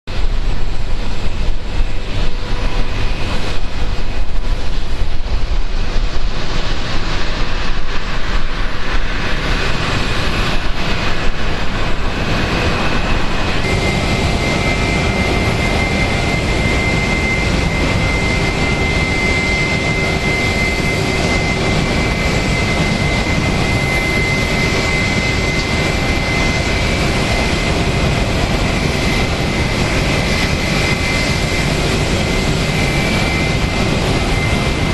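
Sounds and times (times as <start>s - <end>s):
high engine whine: 0.1s - 34.9s
jet engines roaring: 0.1s - 34.9s.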